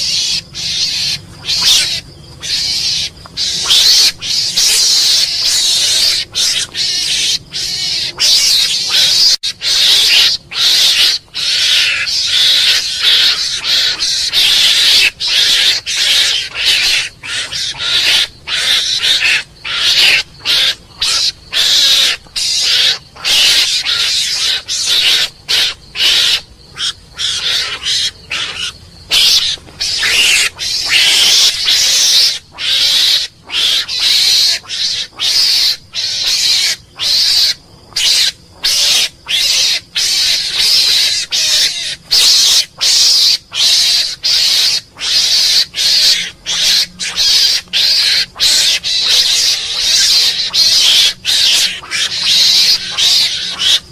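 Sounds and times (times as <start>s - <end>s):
mongoose shrill calls: 0.0s - 53.9s.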